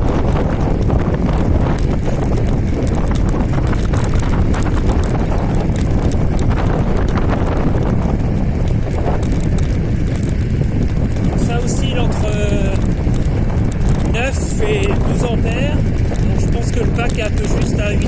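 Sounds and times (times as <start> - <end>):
scooter road rumble: 0.0 - 18.0
small knocks and rattles: 0.0 - 18.0
wind buffeting microphone: 0.0 - 18.0.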